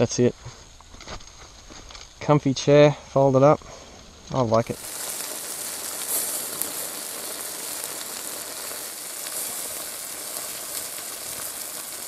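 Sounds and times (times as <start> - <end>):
faint crackles: 0.0 - 12.0
fish sizzling on grill: 0.5 - 12.0.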